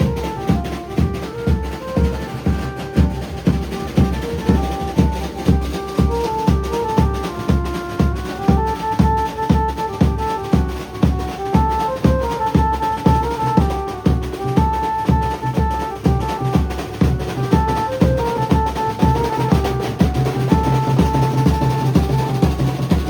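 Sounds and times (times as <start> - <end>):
drum kit and bass drum: 0.0 - 23.0.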